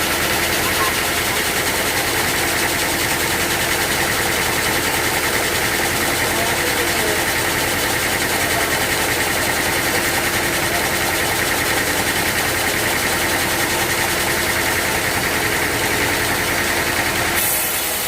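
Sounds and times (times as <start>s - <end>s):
sawmill machinery drone: 0.0s - 18.0s.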